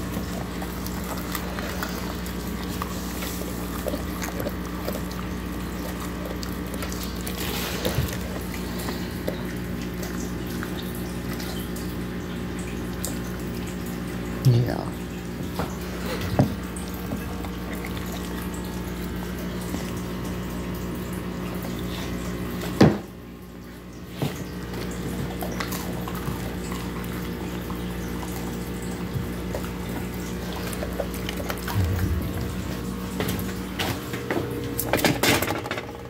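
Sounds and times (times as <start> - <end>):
dog licking and chewing: 0.0 - 14.2, 15.3 - 22.8, 24.1 - 34.9
steady electrical hum: 0.0 - 36.0.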